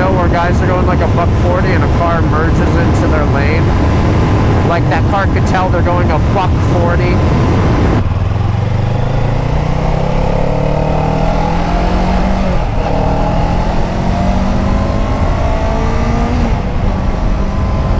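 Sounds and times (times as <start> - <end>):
motorcycle engine accelerating: 0.0 - 17.9.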